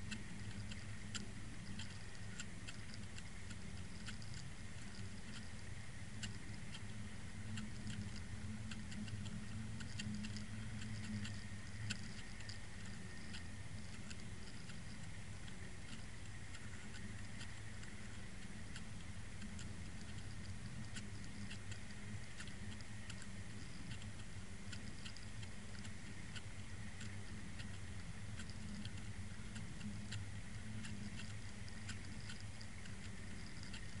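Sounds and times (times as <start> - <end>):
constant hiss: 0.0 - 34.0
small irregular clicks: 0.0 - 34.0
underwater low hum: 0.0 - 34.0.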